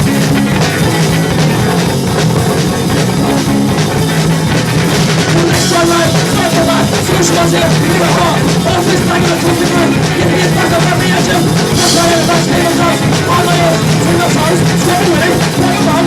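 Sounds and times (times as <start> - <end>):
bass guitar: 0.0 - 16.0
drum kit beat: 0.0 - 16.0
guitar chords: 0.0 - 16.0.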